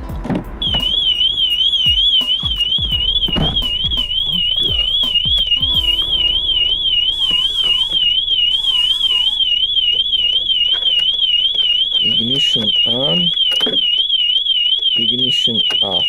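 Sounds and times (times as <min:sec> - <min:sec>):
car alarm siren warbling: 0:00.0 - 0:16.0.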